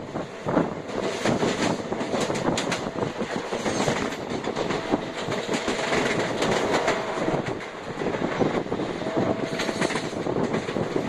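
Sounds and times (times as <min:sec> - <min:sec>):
train rumbling on track: 0:00.0 - 0:11.0
wheels clicking over rail joints: 0:00.9 - 0:08.8, 0:09.4 - 0:11.0.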